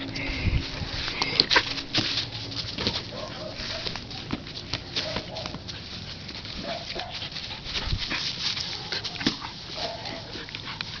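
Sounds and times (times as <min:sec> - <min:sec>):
scuffling: 0:00.0 - 0:11.0.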